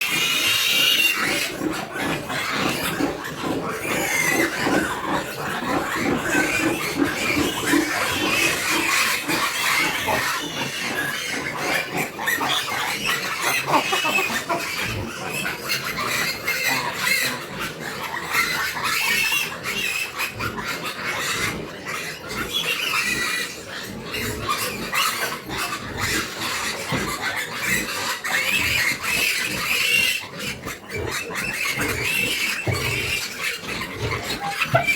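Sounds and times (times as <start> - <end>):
piglets grunting and squealing: 0.0 - 34.9.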